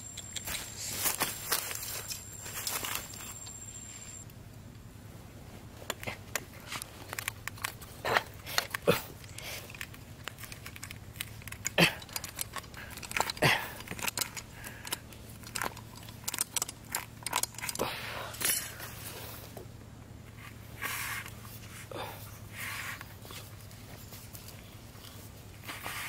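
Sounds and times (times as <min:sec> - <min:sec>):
hands rustling on a tyre: 0:00.0 - 0:04.2, 0:05.1 - 0:26.0.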